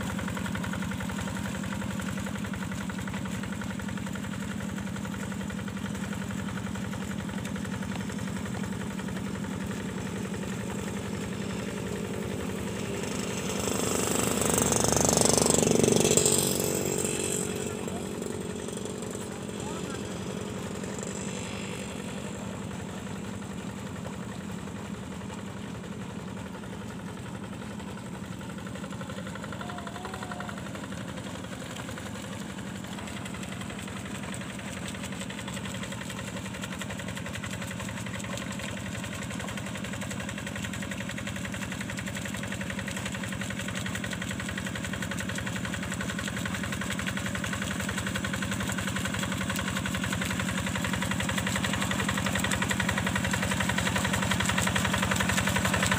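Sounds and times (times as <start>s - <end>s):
hand tractor diesel engine: 0.0s - 55.9s.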